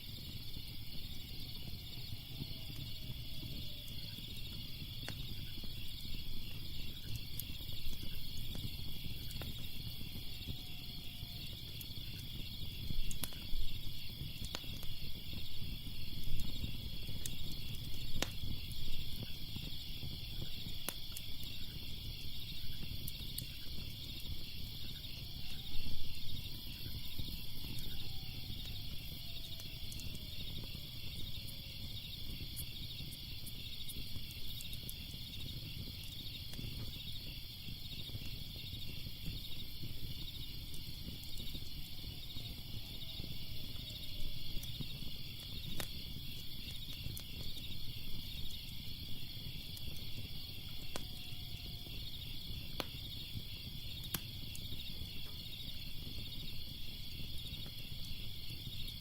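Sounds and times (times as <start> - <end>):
crickets chirping: 0.0 - 59.0
fire crackling and popping: 0.0 - 59.0.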